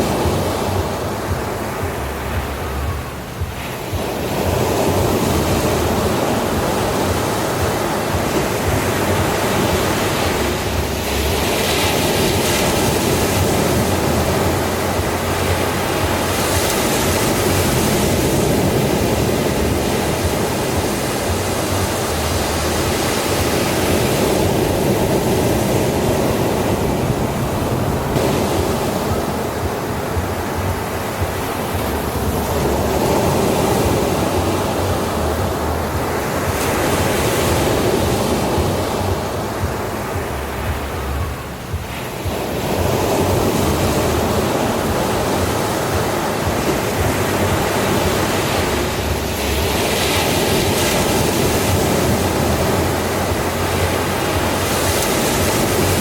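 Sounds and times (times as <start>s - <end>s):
ocean surf washing: 0.0s - 56.0s.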